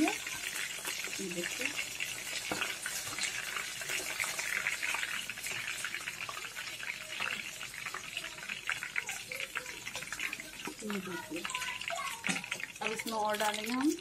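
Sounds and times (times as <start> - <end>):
hot oil sizzling and popping: 0.0 - 14.0.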